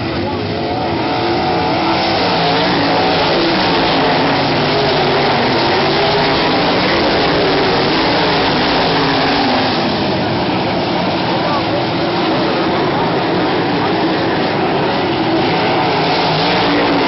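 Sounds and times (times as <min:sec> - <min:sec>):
race car engines racing: 0:00.0 - 0:17.0.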